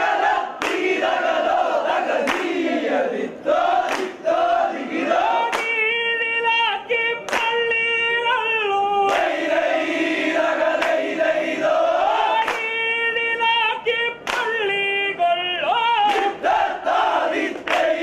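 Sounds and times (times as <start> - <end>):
group singing devotional chant: 0.0 - 18.0.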